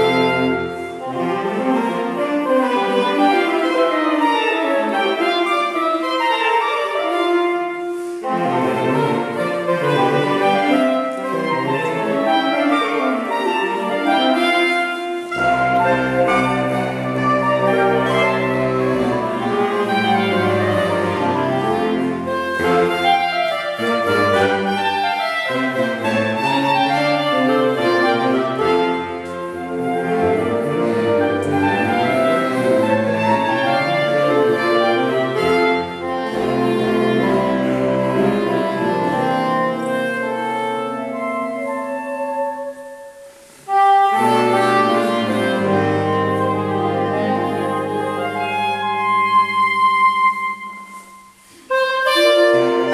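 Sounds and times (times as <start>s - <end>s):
saxophone quartet playing: 0.0s - 52.9s.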